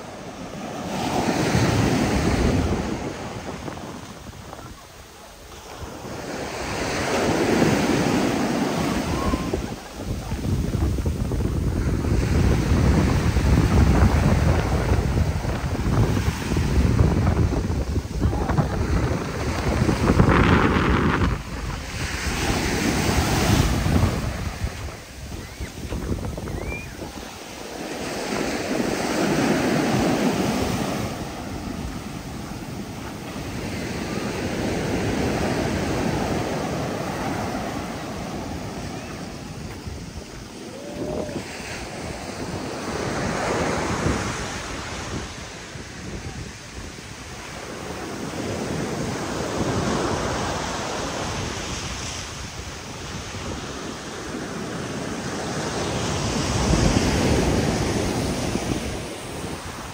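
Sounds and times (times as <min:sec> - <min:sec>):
waves crashing on a beach: 0:00.0 - 0:59.9
wind on the microphone: 0:00.0 - 0:59.9.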